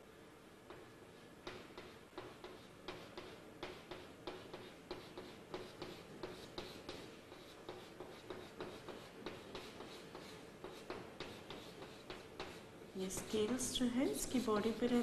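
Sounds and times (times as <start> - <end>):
chalk scratching on blackboard: 0.7 - 15.0.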